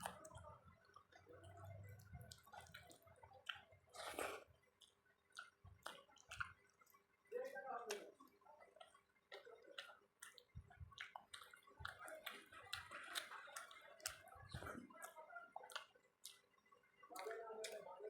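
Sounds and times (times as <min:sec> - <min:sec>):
chewing with wet mouth clicks: 0:00.0 - 0:07.1, 0:07.8 - 0:18.0.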